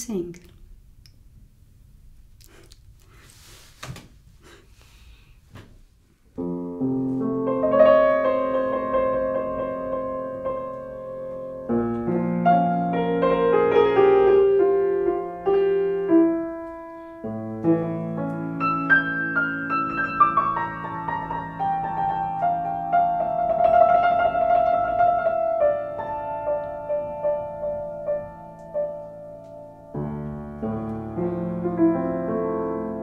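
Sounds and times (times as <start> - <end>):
piano melody over chords: 6.4 - 33.0.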